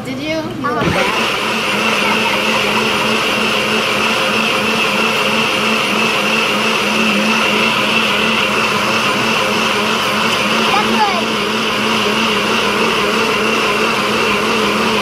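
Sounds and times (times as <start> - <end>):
blender motor whining: 0.7 - 15.0.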